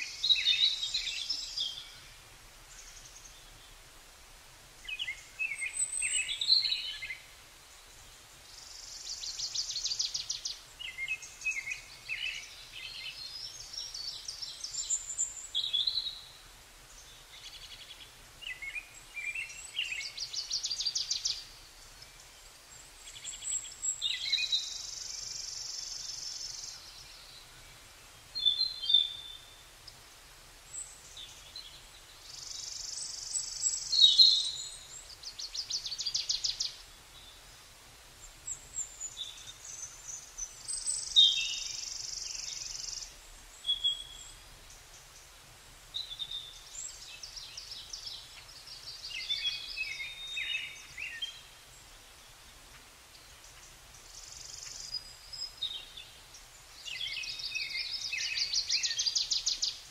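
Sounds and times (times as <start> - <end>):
small birds chirping and trilling: 0.0 - 3.8, 4.8 - 59.9.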